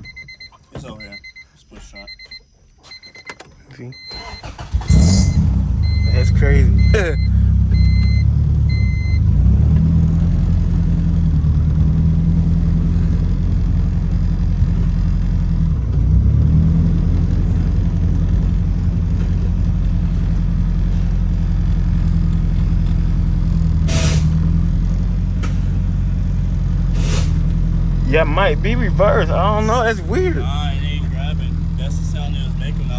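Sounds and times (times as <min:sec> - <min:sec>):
car engine idling: 0:04.0 - 0:32.9.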